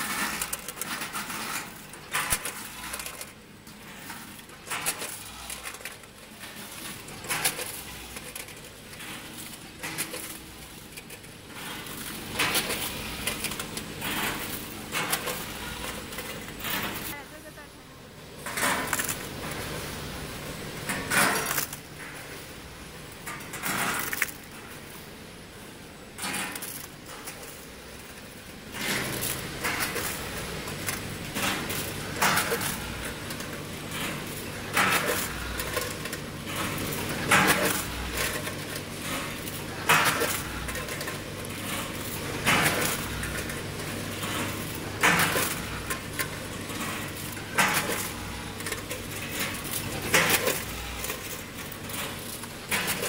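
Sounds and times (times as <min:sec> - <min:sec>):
plastic parts clattering down chute: 0:00.0 - 0:17.5, 0:26.2 - 0:53.0.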